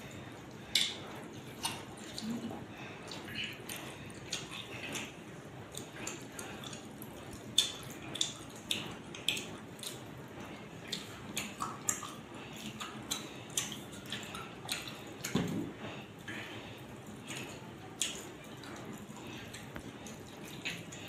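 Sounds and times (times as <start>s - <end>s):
chewing: 0.0s - 21.0s
fingers squishing wet food: 0.0s - 21.0s
wet clicks and smacks: 0.4s - 2.4s, 3.0s - 15.6s, 17.0s - 21.0s.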